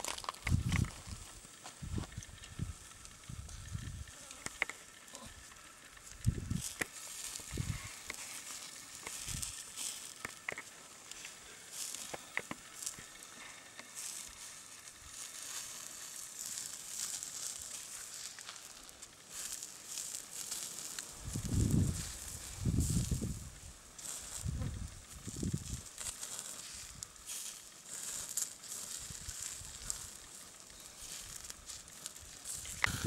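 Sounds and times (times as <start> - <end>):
embers crackling and popping: 0.0 - 33.0
meat sizzling over embers: 0.0 - 33.0.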